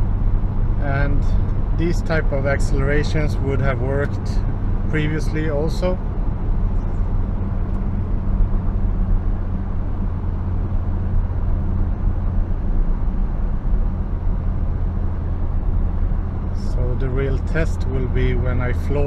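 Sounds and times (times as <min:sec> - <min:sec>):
car engine low drone: 0:00.0 - 0:19.0
tyre road noise: 0:00.0 - 0:19.0.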